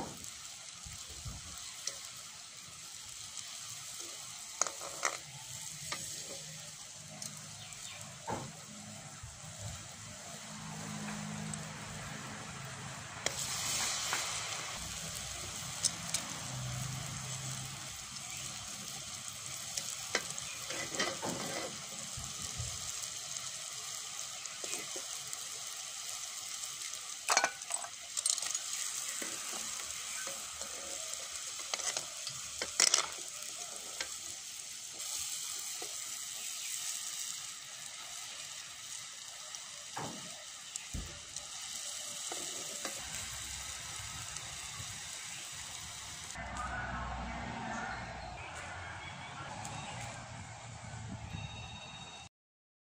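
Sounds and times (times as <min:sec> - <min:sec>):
batter sizzling in hot oil: 0:00.0 - 0:51.9.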